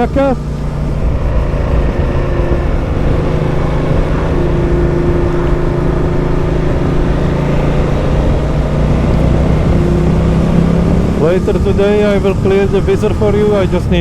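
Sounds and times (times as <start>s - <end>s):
dense rush of noise: 0.0s - 14.0s
motorcycle engine running: 0.0s - 14.0s.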